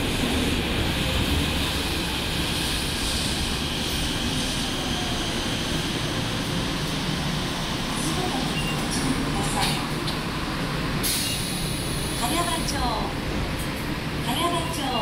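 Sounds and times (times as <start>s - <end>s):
subway train rumbling past: 0.0s - 15.0s.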